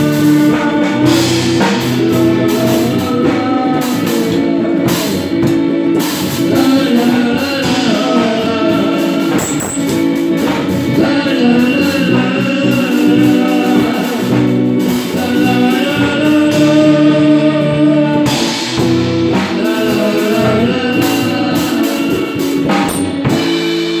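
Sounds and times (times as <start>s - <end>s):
drum kit with cymbal crashes: 0.0s - 24.0s
electric guitar: 0.0s - 24.0s
man singing: 0.0s - 24.0s.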